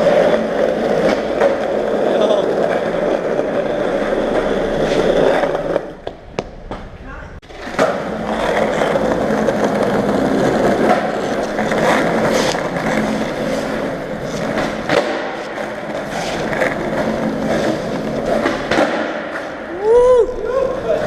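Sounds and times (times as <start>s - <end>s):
skateboard clacks: 0.0s - 21.0s
skateboard wheels rolling on concrete: 0.0s - 21.0s.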